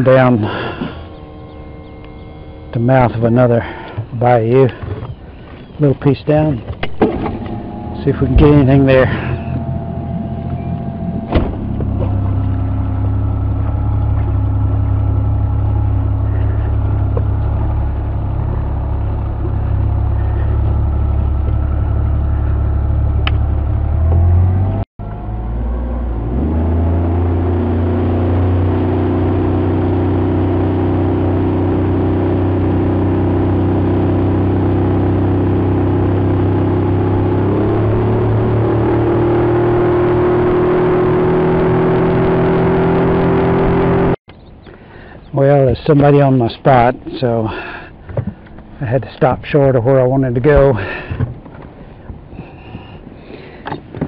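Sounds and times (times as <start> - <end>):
outboard motor droning: 0.0 - 45.2, 45.9 - 54.0.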